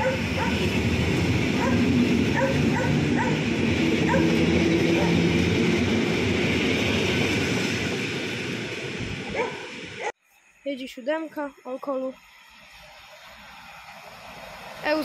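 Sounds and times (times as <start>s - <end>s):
electric train rolling past: 0.0s - 15.0s.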